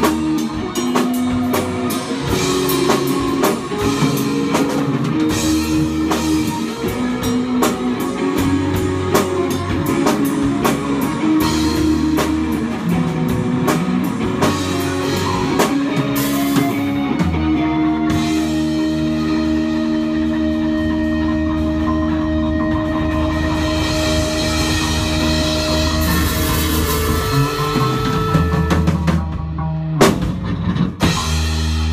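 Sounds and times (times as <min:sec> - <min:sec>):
drum kit: 0:00.0 - 0:31.9
electric guitars strumming chords: 0:00.0 - 0:31.9.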